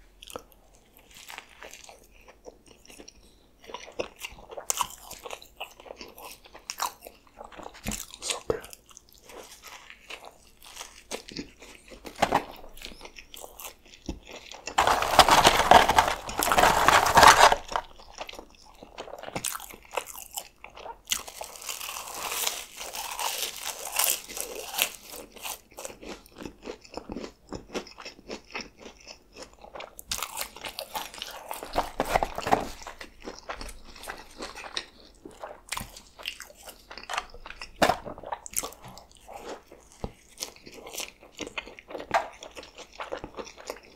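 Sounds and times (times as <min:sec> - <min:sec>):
close-miked chewing and crunching: 0:00.0 - 0:43.9.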